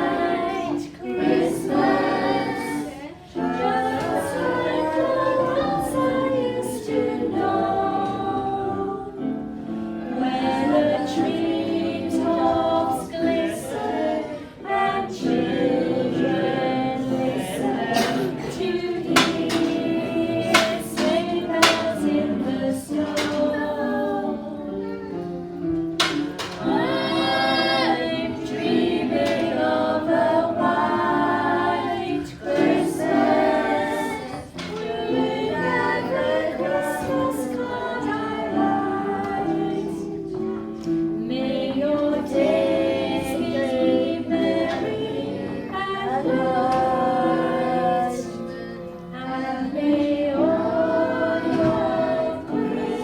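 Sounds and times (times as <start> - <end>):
choir singing a melody: 0.0 - 53.0.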